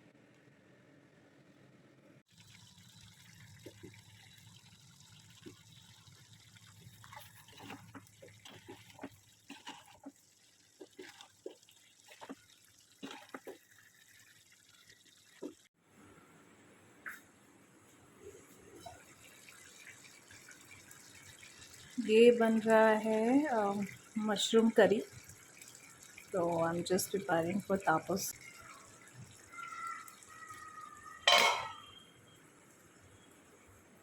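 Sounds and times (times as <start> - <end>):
faint running water: 2.3 - 15.8, 18.2 - 34.0.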